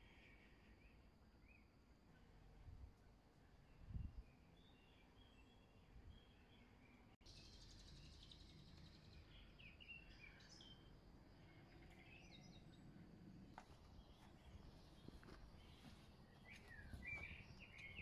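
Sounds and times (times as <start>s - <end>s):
small birds chirping: 3.0s - 18.0s.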